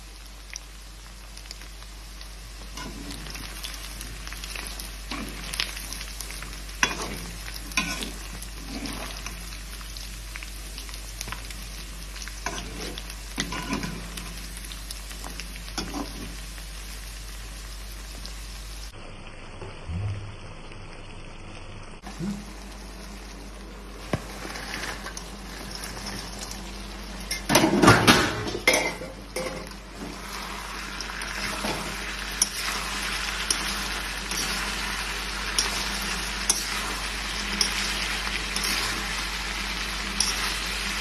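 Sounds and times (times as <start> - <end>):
food deep-frying in oil: 0.0 - 41.0.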